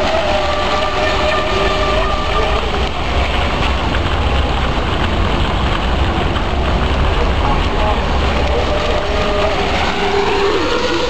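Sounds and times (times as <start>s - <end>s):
toy boat motor whining: 0.0s - 4.8s, 6.4s - 11.0s
low rumble: 0.0s - 11.0s.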